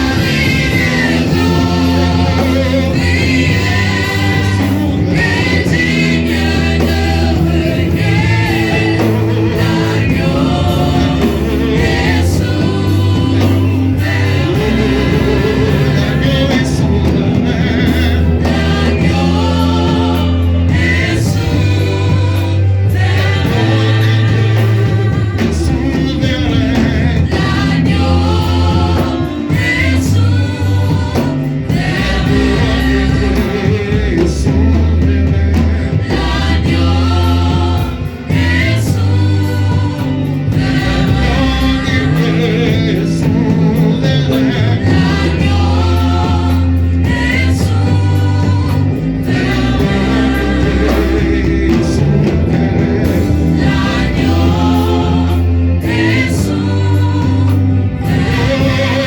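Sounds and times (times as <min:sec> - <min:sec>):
choir singing: 0:00.0 - 0:59.0
drum beat: 0:00.0 - 0:59.0
sustained bass notes: 0:00.0 - 0:59.0.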